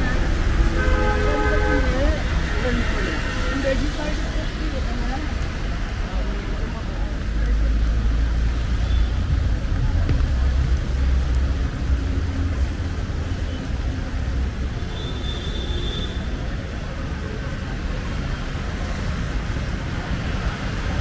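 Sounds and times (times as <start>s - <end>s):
traffic engines rumbling: 0.0s - 21.0s
tyres hissing on wet asphalt: 0.0s - 21.0s.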